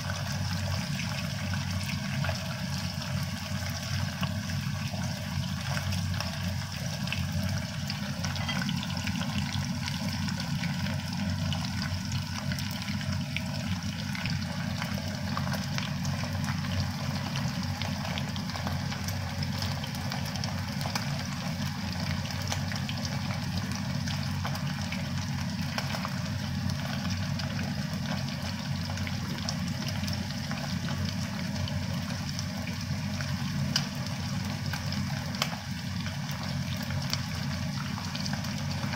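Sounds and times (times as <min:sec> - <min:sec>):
hot oil sizzling: 0:00.0 - 0:38.9.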